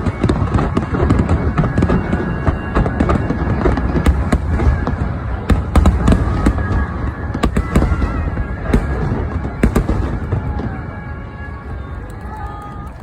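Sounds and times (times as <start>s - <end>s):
faint music: 0.0s - 13.0s
fireworks bangs and crackles: 0.0s - 13.0s.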